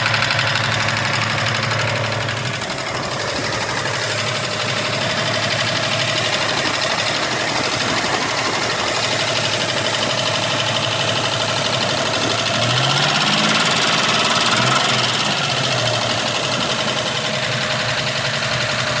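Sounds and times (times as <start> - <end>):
car engine running: 0.0 - 19.0
rapid engine ticking: 0.0 - 19.0.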